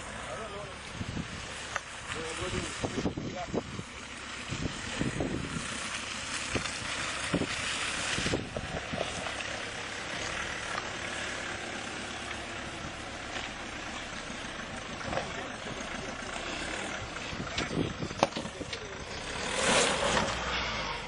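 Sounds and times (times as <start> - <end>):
suv engine running: 0.0 - 21.0.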